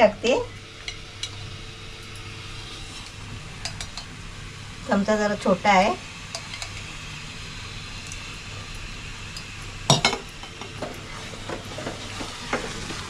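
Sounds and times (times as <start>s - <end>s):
low sizzle: 0.0s - 13.0s.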